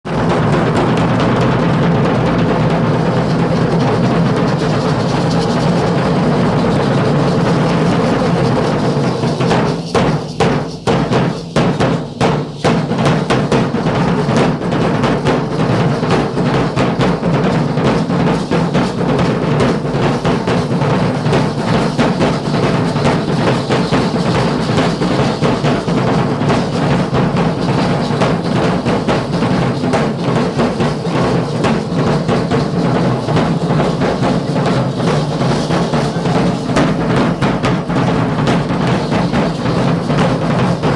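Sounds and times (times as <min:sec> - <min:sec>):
drums beating fast rhythm: 0:00.0 - 0:40.9
heavy drum strokes: 0:00.1 - 0:40.9.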